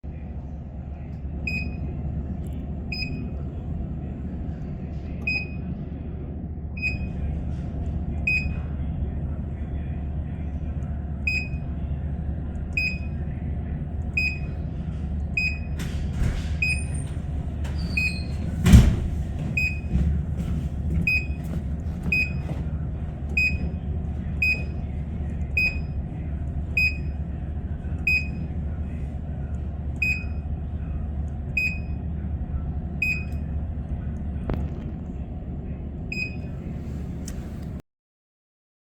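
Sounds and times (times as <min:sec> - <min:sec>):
steady low hum: 0:00.0 - 0:37.8.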